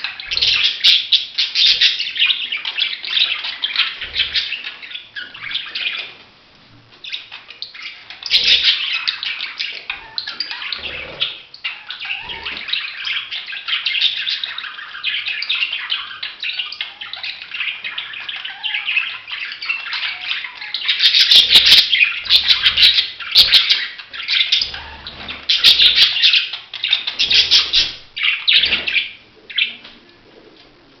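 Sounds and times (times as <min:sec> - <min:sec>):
budgerigar warbling and chirping: 0:00.0 - 0:06.2, 0:07.0 - 0:29.8.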